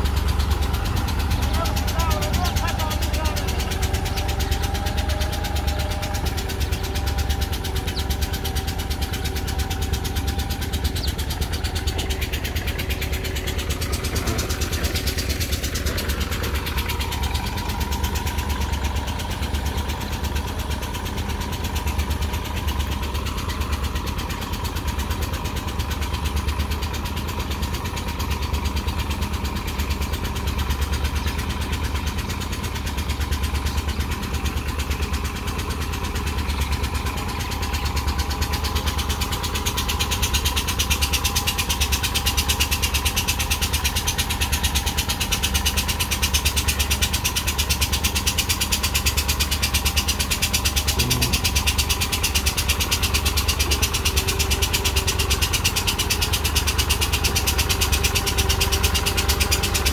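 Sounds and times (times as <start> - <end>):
tractor diesel engine rumbling: 0.0 - 59.9.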